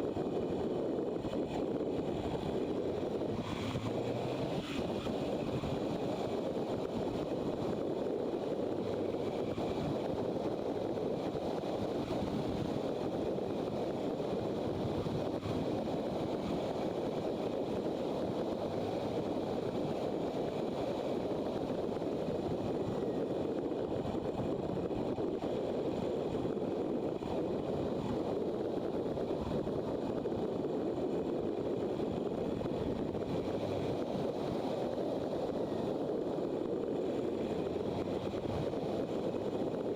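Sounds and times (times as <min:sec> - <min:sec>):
road noise: 0:00.0 - 0:39.9
wind rush over microphone: 0:00.0 - 0:39.9.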